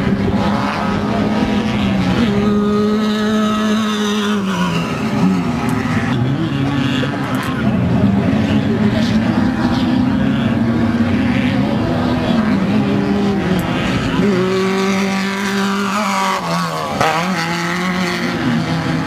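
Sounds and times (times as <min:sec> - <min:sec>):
racing engines droning: 0:00.0 - 0:19.0.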